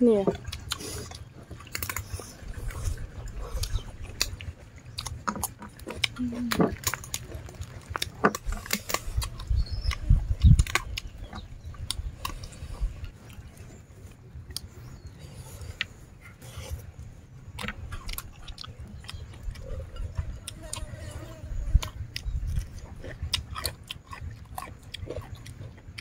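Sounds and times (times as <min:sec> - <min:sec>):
people chewing and crunching: 0:00.0 - 0:26.0.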